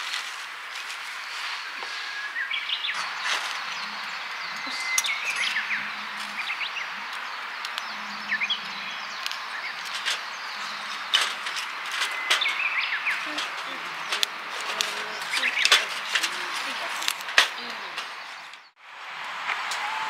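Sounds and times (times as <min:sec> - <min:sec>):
birds chirping: 0:00.0 - 0:18.8
steady outdoor hiss: 0:00.0 - 0:20.0.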